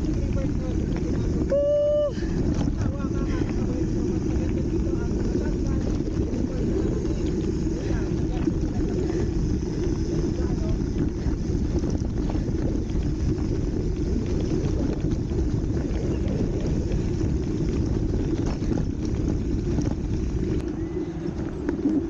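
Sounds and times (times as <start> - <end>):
bicycle tyres rolling on gravel: 0.0 - 22.0
wind on microphone: 0.0 - 22.0
bike jolting over stones: 2.2 - 22.0.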